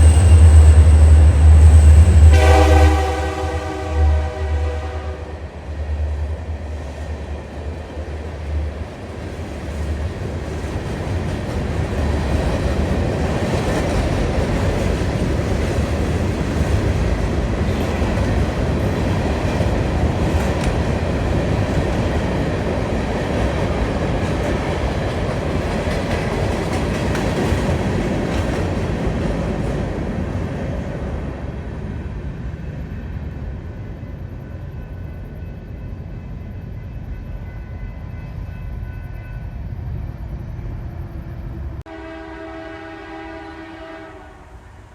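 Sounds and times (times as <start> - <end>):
train rumbling past: 0.0 - 44.9.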